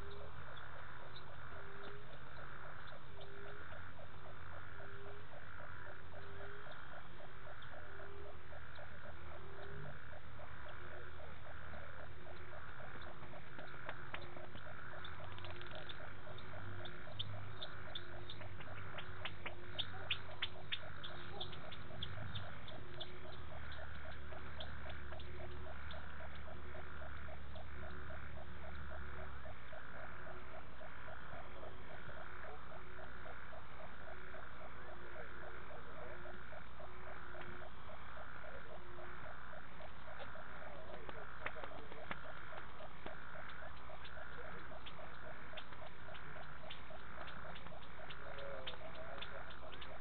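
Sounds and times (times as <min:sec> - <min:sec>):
fast pulsing frog calls: 0:00.0 - 0:50.0
slow pulsing frog calls: 0:00.0 - 0:50.0.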